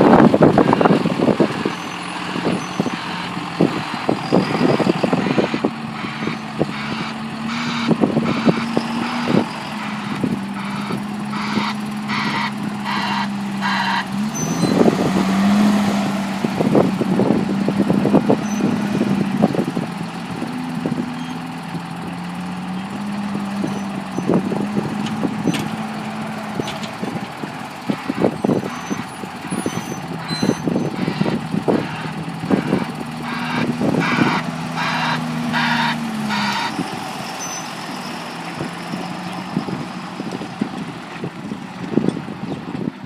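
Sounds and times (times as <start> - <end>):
diesel farm machinery engine: 0.0 - 43.0.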